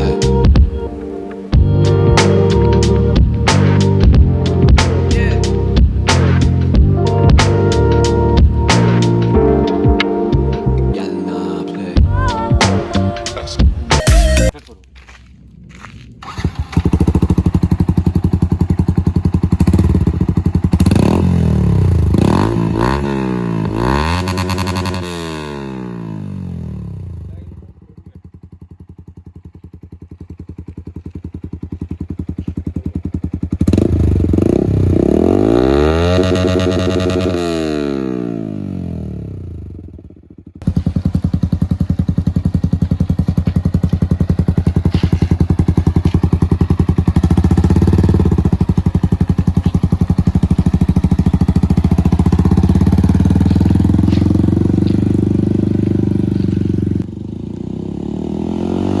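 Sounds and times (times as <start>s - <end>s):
motorcycle engine running: 0.0s - 11.0s, 12.0s - 59.0s
motorcycle passing by: 0.0s - 13.7s, 15.5s - 59.0s.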